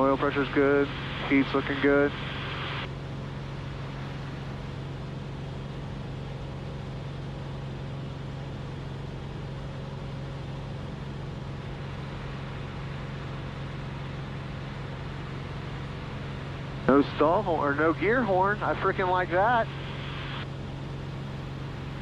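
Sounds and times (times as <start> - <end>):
airplane engine and propeller droning: 0.0 - 22.0.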